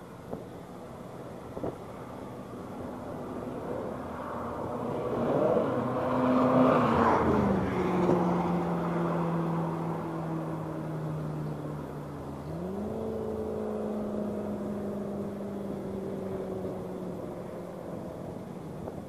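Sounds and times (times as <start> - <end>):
car engine accelerating: 3.6 - 19.0.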